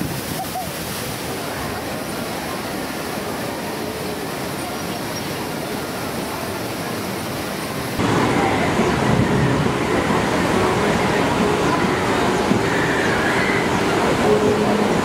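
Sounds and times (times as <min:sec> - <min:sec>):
murmur of crowd voices: 0:00.0 - 0:15.0.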